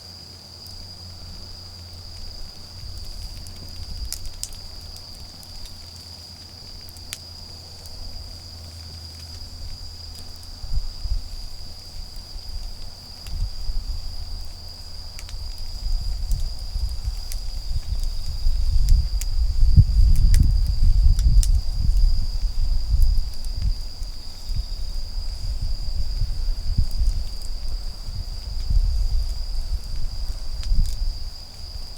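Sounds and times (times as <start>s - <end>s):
insects trilling: 0.0s - 31.9s
low rumbling rustling noise: 0.0s - 31.9s
campfire crackling: 0.1s - 31.9s.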